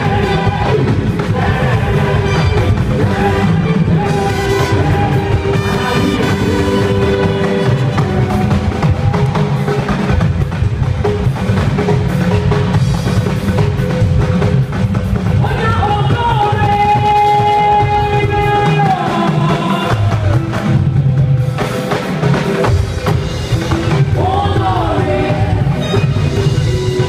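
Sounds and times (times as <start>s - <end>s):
held melody line: 0.0s - 21.9s
drum kit beat: 0.0s - 27.0s.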